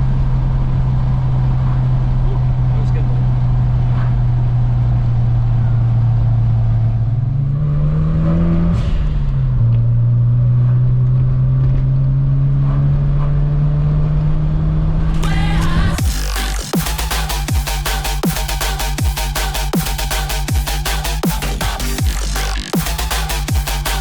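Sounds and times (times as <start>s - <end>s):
rotary car engine running: 0.0s - 24.0s.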